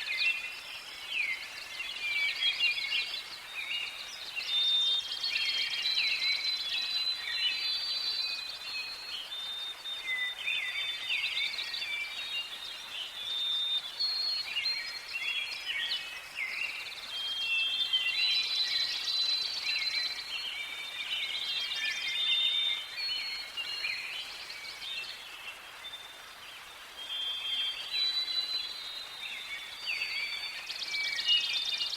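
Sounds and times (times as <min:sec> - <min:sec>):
songbirds singing and calling: 0:00.0 - 0:31.9.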